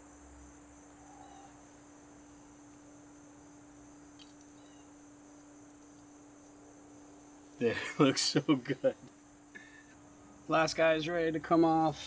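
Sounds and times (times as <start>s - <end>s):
high insect drone: 0.0s - 12.0s
low steady hum: 0.0s - 12.0s.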